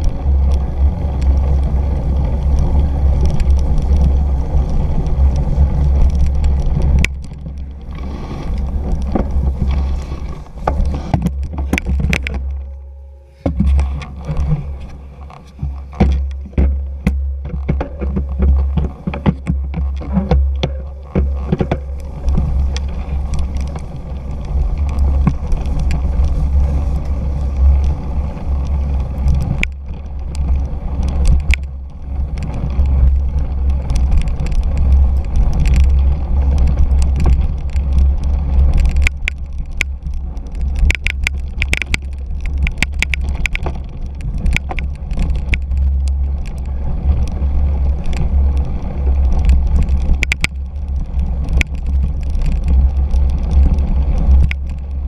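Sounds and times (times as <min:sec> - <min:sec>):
bike rattling over rough ground: 0:00.0 - 0:55.0
wind rumble on microphone: 0:00.0 - 0:55.0
sharp clicks and knocks: 0:05.8 - 0:28.0, 0:28.6 - 0:55.0.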